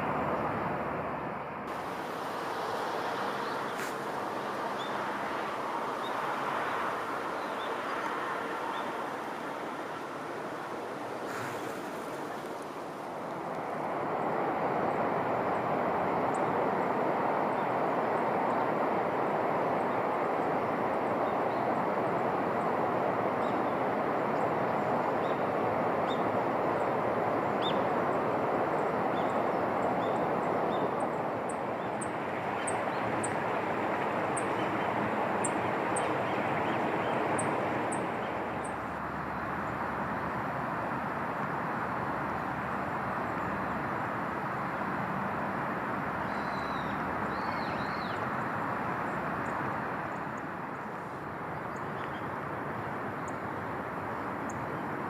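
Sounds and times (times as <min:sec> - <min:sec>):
steady rushing noise: 0:00.0 - 0:51.6.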